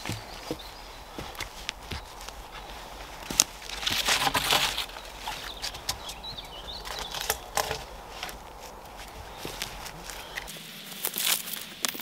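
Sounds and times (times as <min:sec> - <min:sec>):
small bird chirping: 0:00.0 - 0:11.0
footsteps crunching dry leaves: 0:00.0 - 0:12.0
twig cracking: 0:00.0 - 0:12.0.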